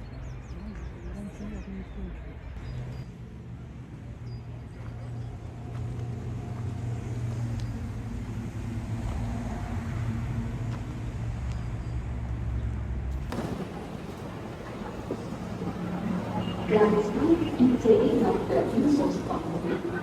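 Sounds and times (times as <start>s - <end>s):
large vehicle rumbling: 0.1s - 20.0s.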